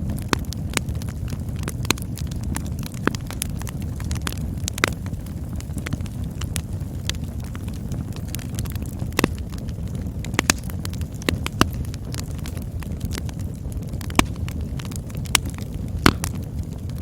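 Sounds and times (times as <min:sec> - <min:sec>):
campfire flames rumbling: 0:00.0 - 0:17.0
fire crackles and pops: 0:00.0 - 0:17.0.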